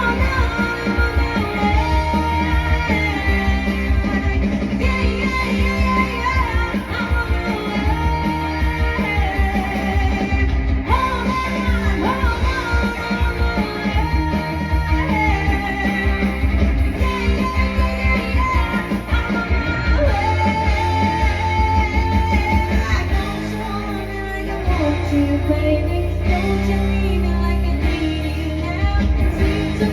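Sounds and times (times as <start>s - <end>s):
rock band playing: 0.0s - 29.9s.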